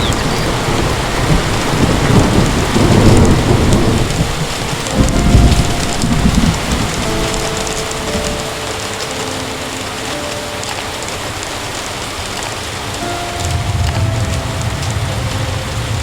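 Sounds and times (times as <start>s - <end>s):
low rolling thunder: 0.0s - 9.0s, 11.0s - 16.0s
heavy rain pouring: 0.0s - 16.0s.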